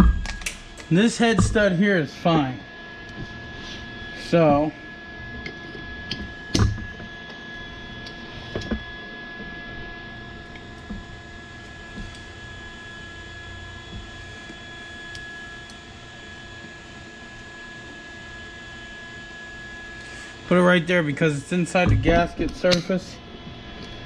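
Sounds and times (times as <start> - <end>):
steady electric hum: 0.0 - 24.0.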